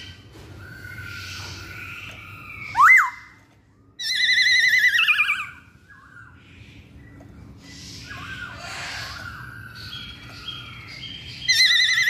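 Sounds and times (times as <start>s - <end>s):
bird singing whistles: 0.0s - 3.4s, 4.0s - 12.0s.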